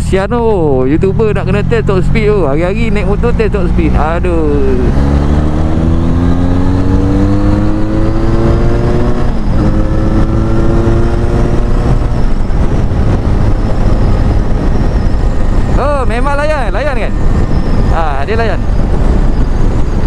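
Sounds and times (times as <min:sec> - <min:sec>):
wind rush: 0:00.0 - 0:20.0
motorcycle engine accelerating: 0:00.2 - 0:20.0.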